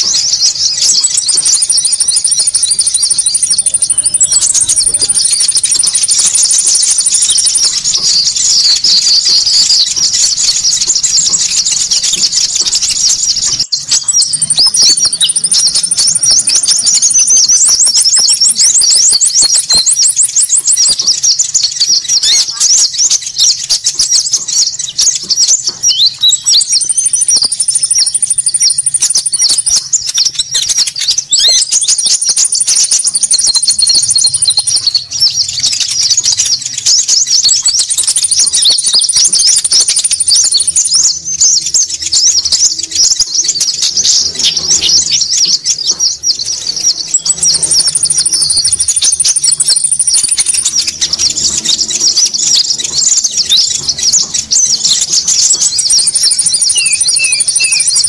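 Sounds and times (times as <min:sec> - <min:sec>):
fast rattling bird trill: 0:00.0 - 0:58.0
small birds twittering: 0:00.0 - 0:58.0
thin high bird trill: 0:00.0 - 0:58.0.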